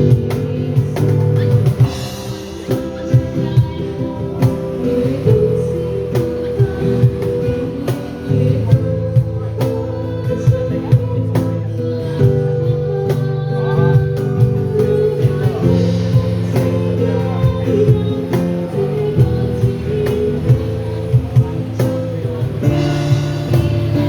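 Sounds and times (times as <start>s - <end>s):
live pop band playing: 0.0s - 24.0s
steady drum beat: 0.0s - 24.0s
strummed guitar: 0.0s - 24.0s.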